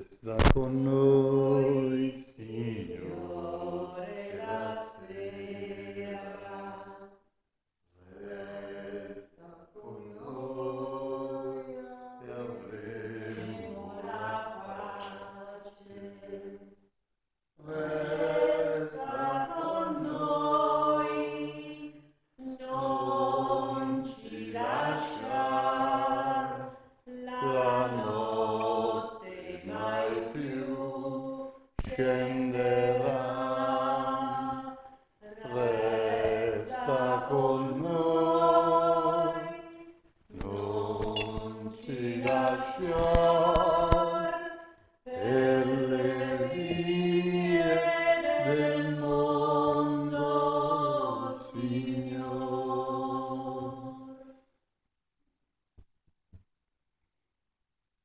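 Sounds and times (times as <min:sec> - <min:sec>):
voices singing a slow hymn: 0:00.0 - 0:07.2, 0:08.0 - 0:16.8, 0:17.6 - 0:54.5.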